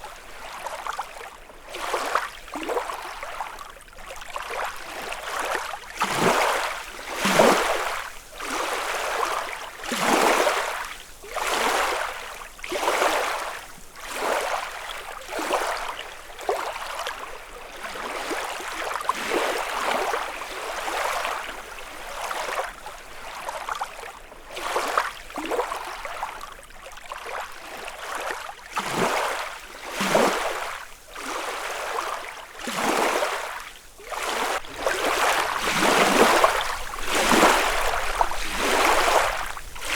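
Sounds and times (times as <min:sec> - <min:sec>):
lake waves lapping on shore: 0:00.0 - 0:39.9.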